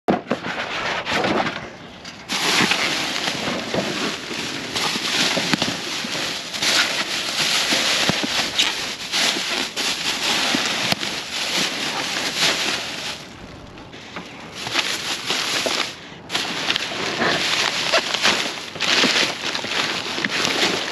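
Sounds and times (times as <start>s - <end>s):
plastic bags crinkling: 2.2s - 20.9s.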